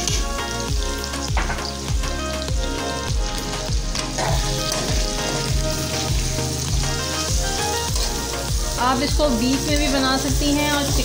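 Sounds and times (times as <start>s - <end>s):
background music with drum beat: 0.0s - 11.0s
meat sizzling in hot oil: 0.0s - 11.0s.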